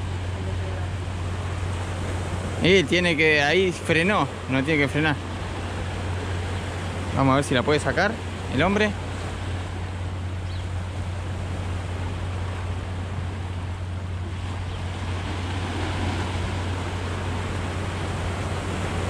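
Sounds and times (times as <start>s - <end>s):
surf washing against rocks: 0.0s - 19.0s.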